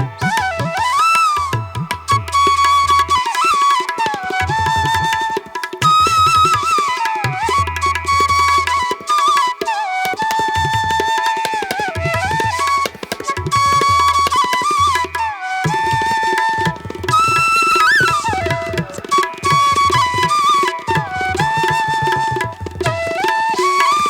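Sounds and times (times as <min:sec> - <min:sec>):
flute melody: 0:00.0 - 0:24.0
tabla drumming: 0:00.0 - 0:24.0.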